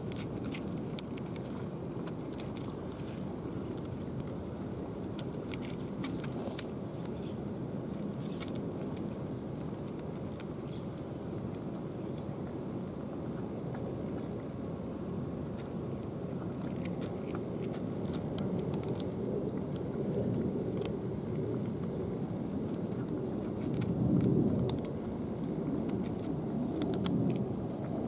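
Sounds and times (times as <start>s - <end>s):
cats crunching dry kibble: 0.0s - 28.0s.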